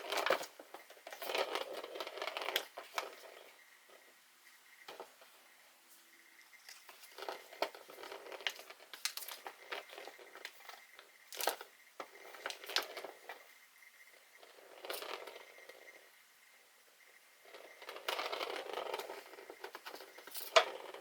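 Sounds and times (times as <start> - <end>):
crinkling and rustling: 0.0 - 4.1, 4.8 - 13.6, 14.2 - 16.0, 17.4 - 21.0.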